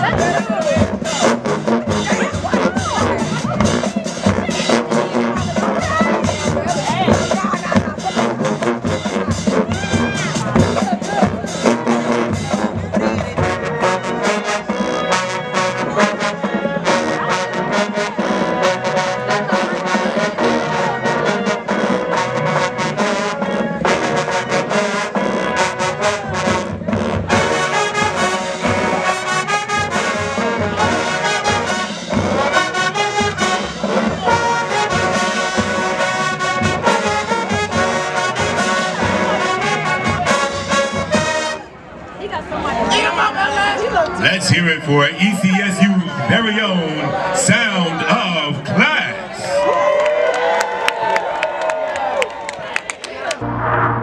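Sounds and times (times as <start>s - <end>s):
marching band playing: 0.0s - 42.0s, 42.9s - 49.6s.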